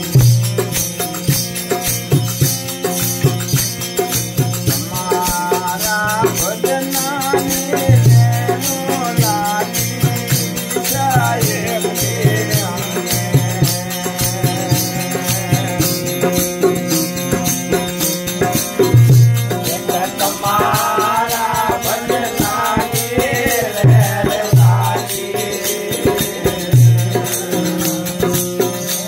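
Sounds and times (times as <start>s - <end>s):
hand cymbals: 0.0s - 29.0s
strummed drone: 0.0s - 29.0s
wooden clappers with jingles: 0.0s - 29.0s
man singing: 4.6s - 29.0s.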